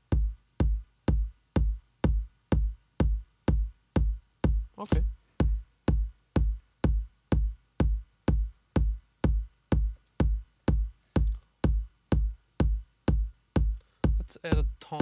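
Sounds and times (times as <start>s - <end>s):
electronic kick drum: 0.0s - 15.0s.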